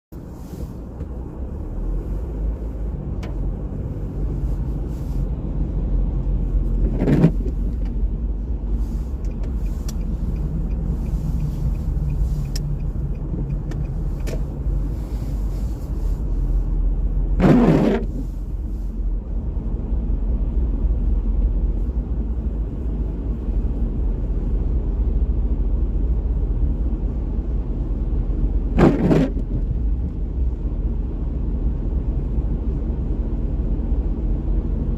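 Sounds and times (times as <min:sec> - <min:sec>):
car road rumble: 0:00.1 - 0:34.9
tyres swishing on wet road: 0:00.1 - 0:34.9.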